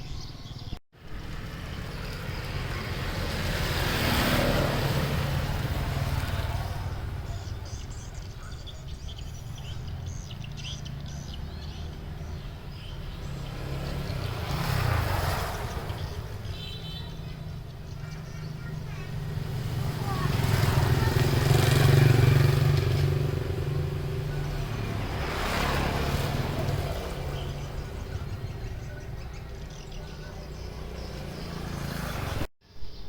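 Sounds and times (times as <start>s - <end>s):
vehicle engine rumbling: 0.0s - 32.5s.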